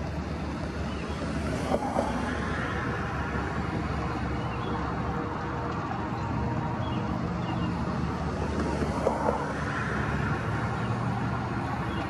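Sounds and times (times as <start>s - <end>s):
locomotive engine drone: 0.0s - 12.0s
wheel and rail noise: 0.0s - 12.0s.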